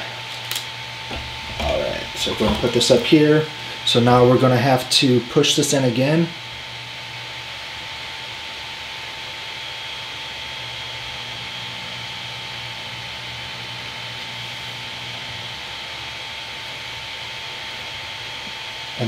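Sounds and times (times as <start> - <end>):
cooling fans whirring: 0.0 - 19.0.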